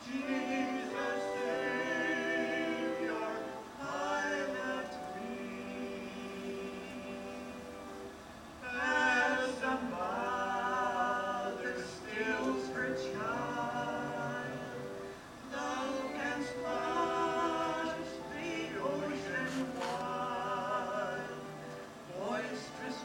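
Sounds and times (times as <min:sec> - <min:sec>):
vocal group singing a hymn: 0:00.0 - 0:23.0.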